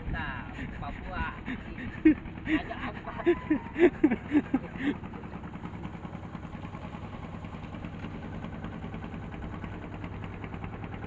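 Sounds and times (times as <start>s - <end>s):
engine idling with chugging beat: 0.0s - 11.0s.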